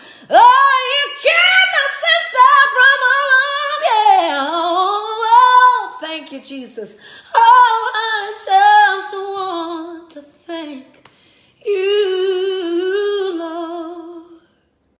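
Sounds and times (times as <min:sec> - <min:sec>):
woman singing unaccompanied: 0:00.0 - 0:11.0, 0:11.6 - 0:14.5.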